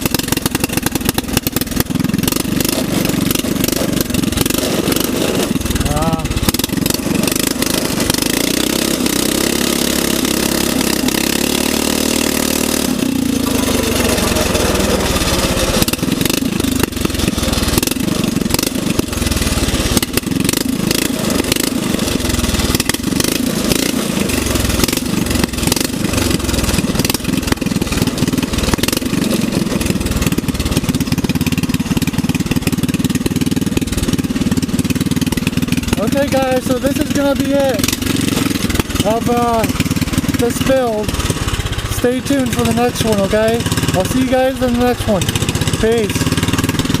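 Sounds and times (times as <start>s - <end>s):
small go-kart engine running: 0.0s - 47.0s.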